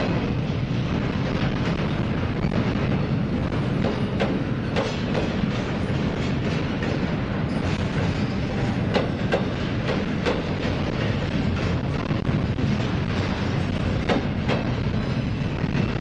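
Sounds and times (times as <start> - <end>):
train cars rumbling: 0.0 - 16.0.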